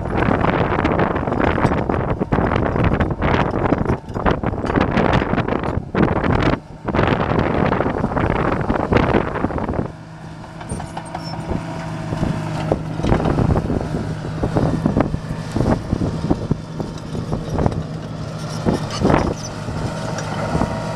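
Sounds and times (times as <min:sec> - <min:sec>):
diesel engine running: 0:00.0 - 0:20.9
wind buffeting microphone: 0:00.0 - 0:20.9.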